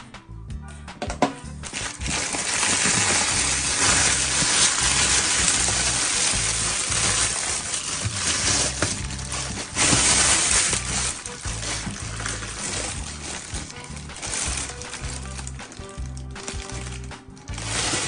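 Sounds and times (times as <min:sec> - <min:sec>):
background music: 0:00.0 - 0:18.0
bubble wrap crinkling and crackling: 0:01.6 - 0:18.0.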